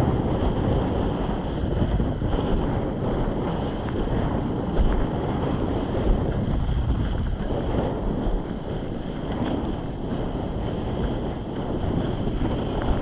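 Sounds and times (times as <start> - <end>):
water rushing beneath board: 0.0 - 13.0
wind buffeting microphone: 0.0 - 13.0.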